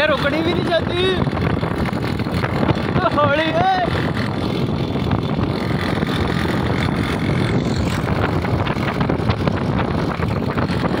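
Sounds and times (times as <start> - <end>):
cart wheels rumbling on pavement: 0.0 - 11.0
wind buffeting microphone: 0.0 - 11.0.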